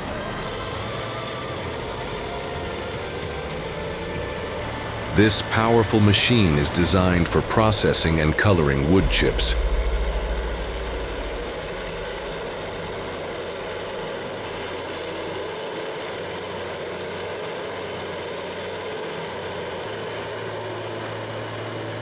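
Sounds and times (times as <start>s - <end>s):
grinder engine drone: 0.0s - 22.0s.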